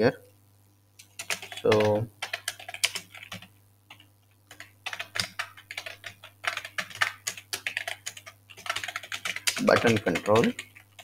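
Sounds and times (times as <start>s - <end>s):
computer keyboard typing: 1.0s - 11.0s.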